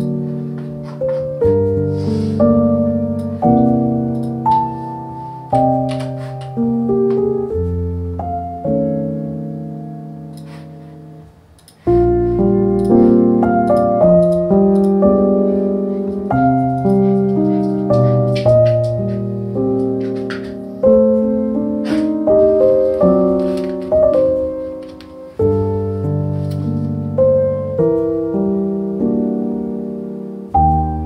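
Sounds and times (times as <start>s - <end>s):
gentle piano chords: 0.0s - 31.0s.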